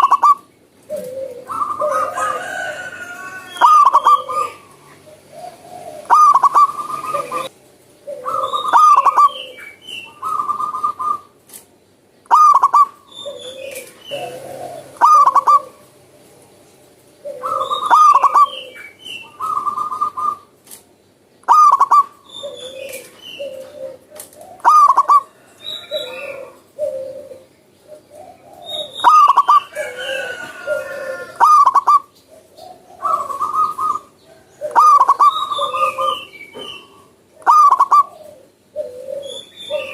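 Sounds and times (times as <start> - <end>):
dove cooing: 0.0 - 11.4, 12.3 - 20.5, 21.4 - 39.9
small birds chirping faintly: 0.0 - 39.9.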